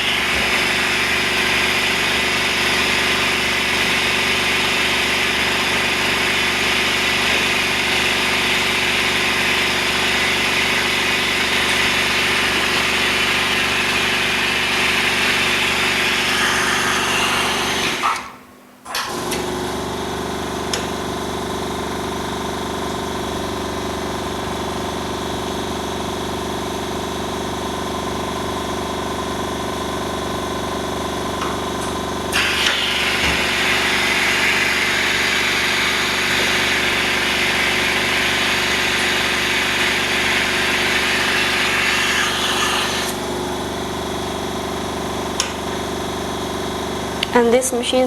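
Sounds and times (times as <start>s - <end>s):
vacuum pump humming: 0.0s - 48.0s.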